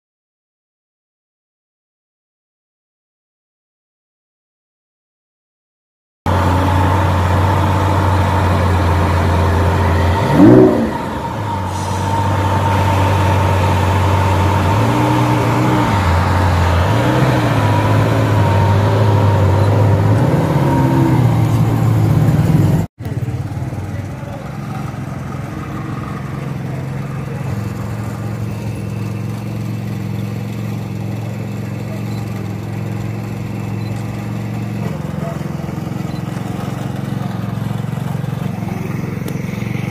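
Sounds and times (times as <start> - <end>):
car engine revving and idling: 6.3 - 39.9.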